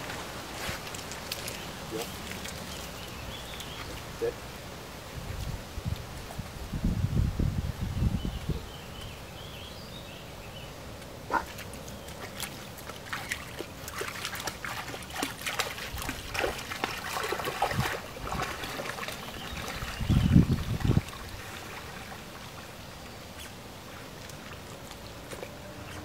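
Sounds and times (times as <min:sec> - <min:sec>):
water splashing and trickling: 0:00.0 - 0:06.8, 0:10.8 - 0:26.0.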